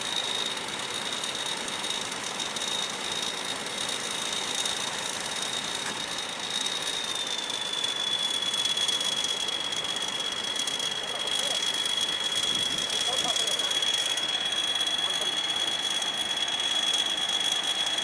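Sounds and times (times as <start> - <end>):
combine harvester running: 0.0 - 18.0
high-pitched machine whine: 0.0 - 18.0.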